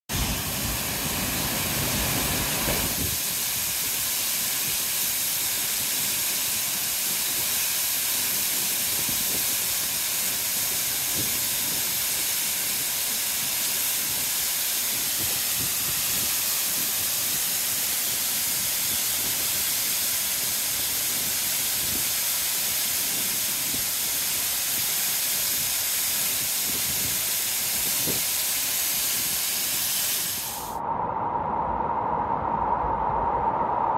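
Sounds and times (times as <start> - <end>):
waterfall hiss: 0.1 - 30.8.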